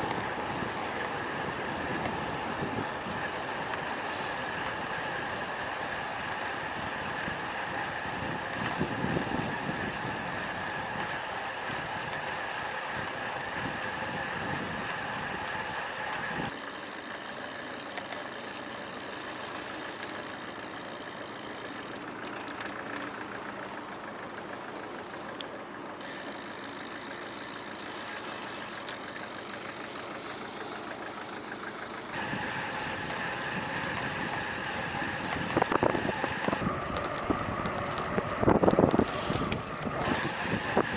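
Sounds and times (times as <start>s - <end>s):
bike road noise: 0.0s - 40.9s
engine sound: 0.0s - 40.9s.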